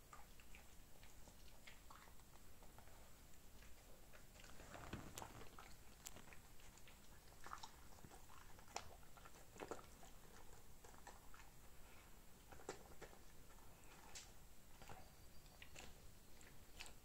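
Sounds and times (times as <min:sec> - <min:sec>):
dog chewing crusty bread: 0:00.1 - 0:17.0.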